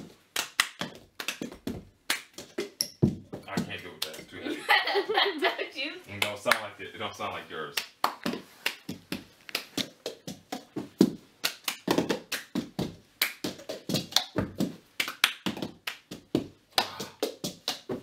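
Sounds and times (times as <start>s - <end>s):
hands clapping: 0.3s - 2.8s, 3.5s - 4.4s, 6.1s - 18.0s.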